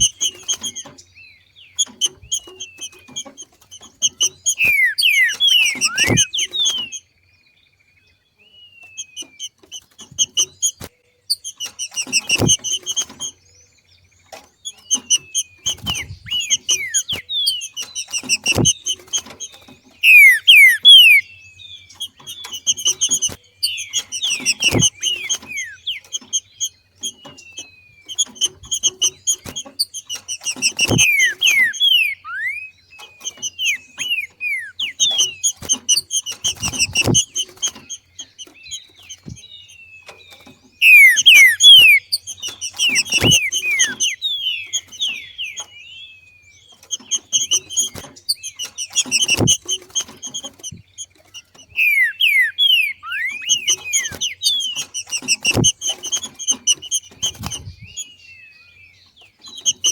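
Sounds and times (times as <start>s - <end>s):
bird chirps and whistles: 0.0s - 1.0s, 1.7s - 7.1s, 8.6s - 13.4s, 14.6s - 59.9s.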